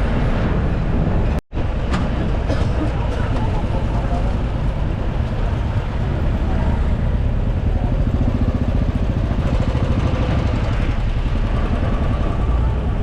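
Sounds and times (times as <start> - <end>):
vehicle engine running: 2.1 - 13.0.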